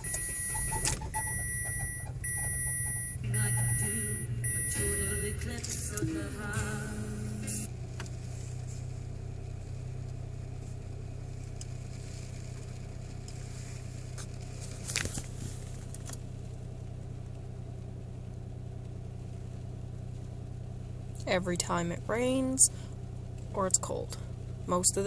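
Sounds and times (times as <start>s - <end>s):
small car engine humming: 0.0s - 25.0s.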